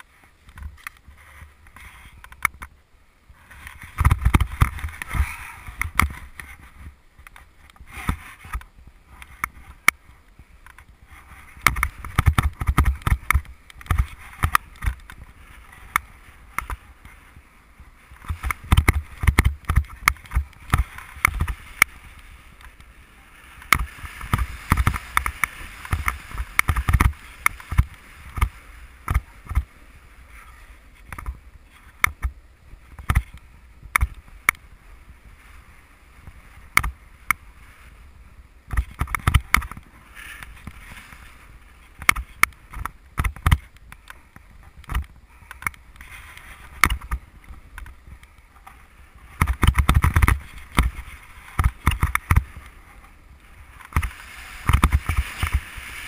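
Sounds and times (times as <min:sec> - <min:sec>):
wind rumbling on microphone: 0:00.0 - 0:56.0
snowboard scraping over snow: 0:03.3 - 0:56.0.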